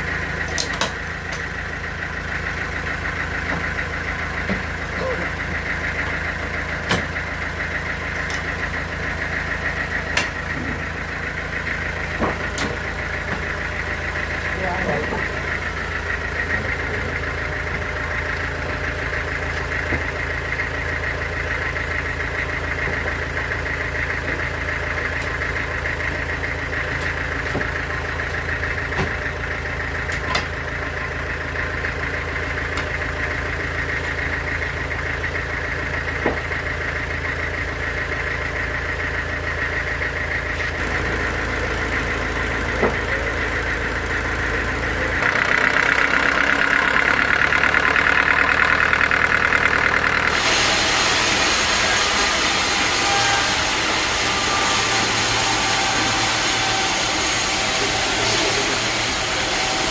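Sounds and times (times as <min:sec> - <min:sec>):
bandsaw drone and whine: 0:00.0 - 0:59.9.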